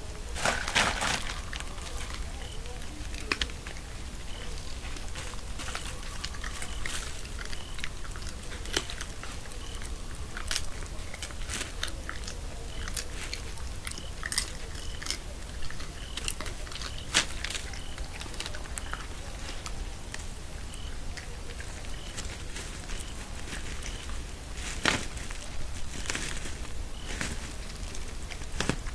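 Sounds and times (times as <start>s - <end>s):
animal crunching bones: 0.3s - 28.9s.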